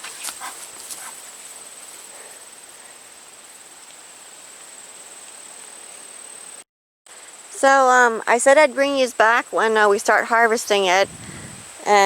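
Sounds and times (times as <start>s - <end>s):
faint outdoor hiss: 0.0s - 12.0s
insects trilling: 0.0s - 12.0s.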